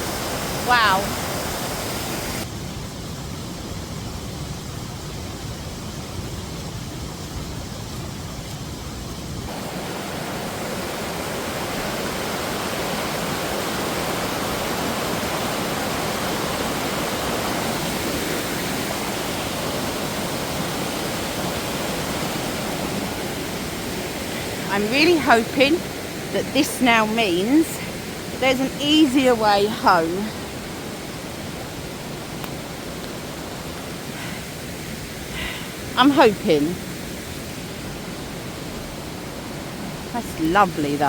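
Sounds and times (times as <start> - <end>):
waterfall rushing: 0.0 - 3.0, 9.4 - 41.0.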